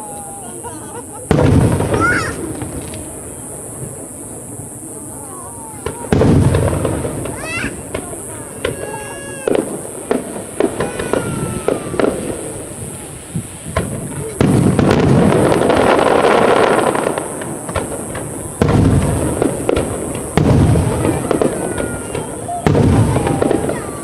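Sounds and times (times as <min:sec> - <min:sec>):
crackling firework bursts: 0:00.0 - 0:24.0
fireworks bursting with booms: 0:00.0 - 0:24.0.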